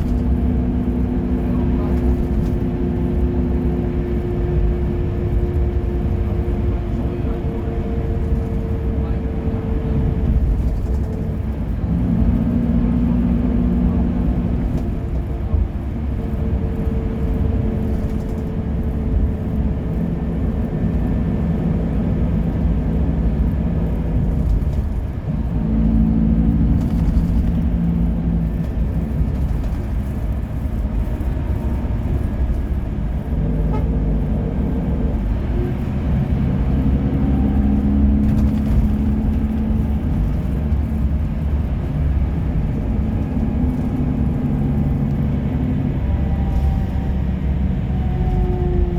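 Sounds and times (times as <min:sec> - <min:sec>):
car engine while driving: 0:00.0 - 0:48.9
road rumble: 0:00.0 - 0:48.9.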